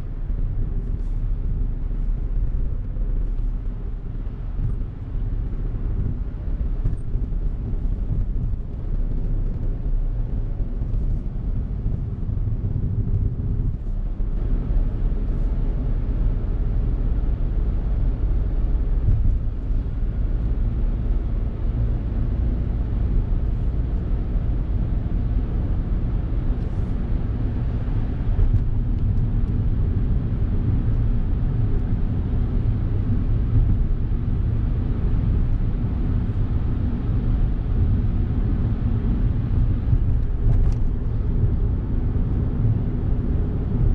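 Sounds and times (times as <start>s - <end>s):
car engine rumble: 0.0s - 43.9s.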